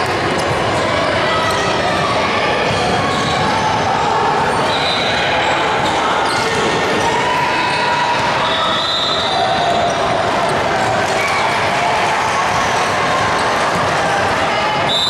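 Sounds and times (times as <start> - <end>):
many voices: 0.0 - 15.0.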